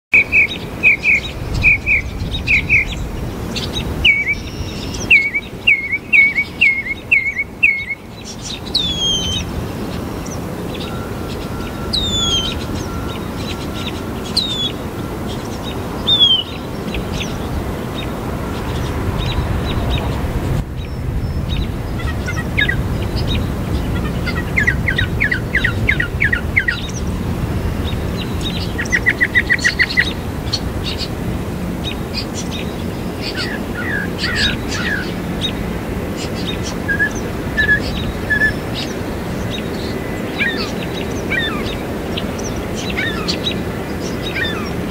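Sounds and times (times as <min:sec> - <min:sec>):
mockingbird singing: 0:00.2 - 0:20.2, 0:20.8 - 0:31.1, 0:31.8 - 0:44.9
steady low background noise: 0:00.2 - 0:44.9.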